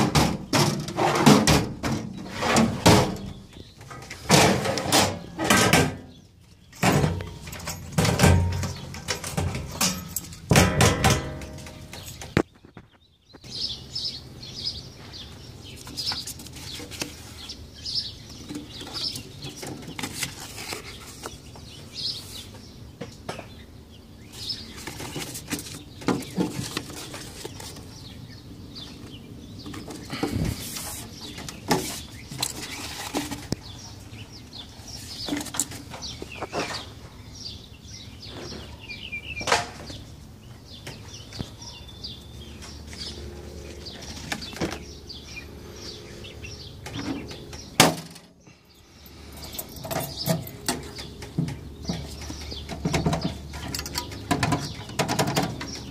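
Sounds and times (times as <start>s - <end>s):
small birds chirping: 1.8s - 10.6s, 11.4s - 55.9s.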